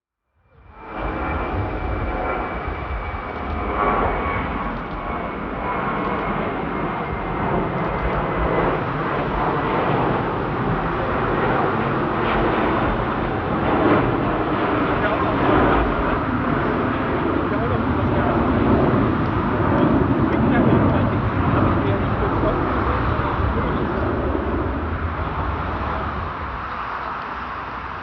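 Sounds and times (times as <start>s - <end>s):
jet engines rumbling: 0.4s - 28.0s.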